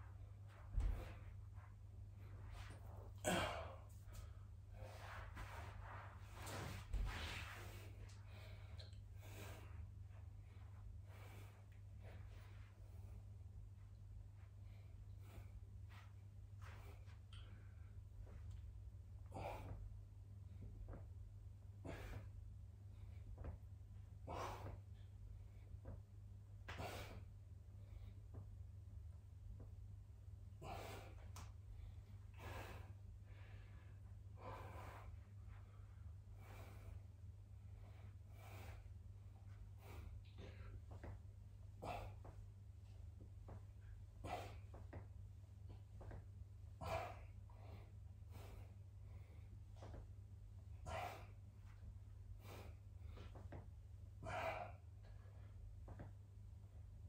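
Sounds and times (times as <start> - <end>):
man breathing heavily: 0.0 - 26.0, 26.7 - 28.5, 30.5 - 56.2
steady low hum: 0.0 - 57.0.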